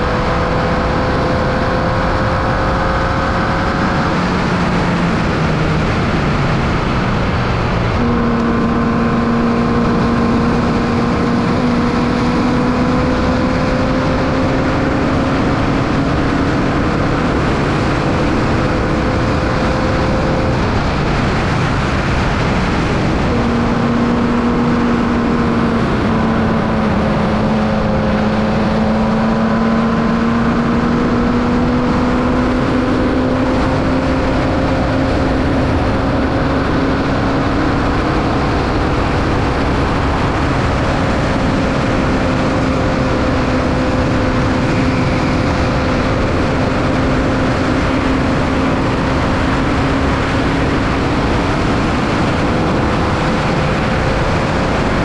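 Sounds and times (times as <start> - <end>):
loud rushing noise: 0.0 - 55.0
race car engine running hard: 0.0 - 55.0.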